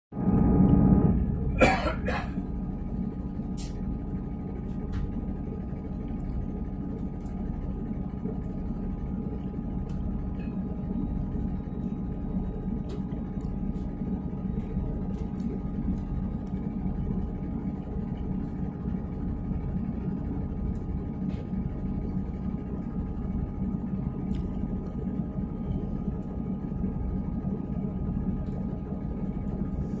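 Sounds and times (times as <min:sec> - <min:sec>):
faint steady whine: 0:00.2 - 0:30.0
train rumble inside carriage: 0:00.2 - 0:30.0.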